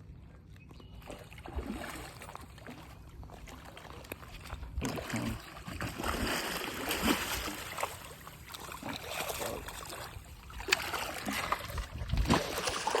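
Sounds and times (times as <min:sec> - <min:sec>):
water sloshing around boat: 0:00.0 - 0:13.0.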